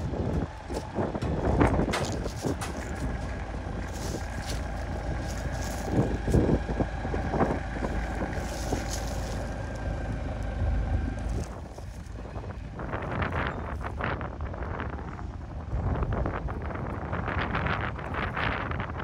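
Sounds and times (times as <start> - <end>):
forklift engine running under load: 0.0 - 19.0
wind buffeting microphone: 0.0 - 19.0.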